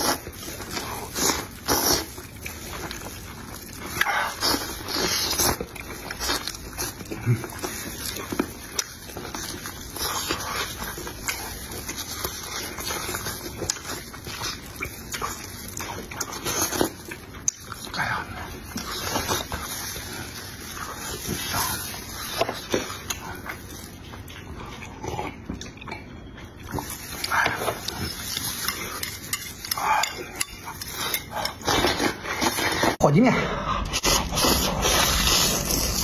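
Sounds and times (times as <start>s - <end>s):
wet chewing and lip-smacking: 0.0s - 32.7s.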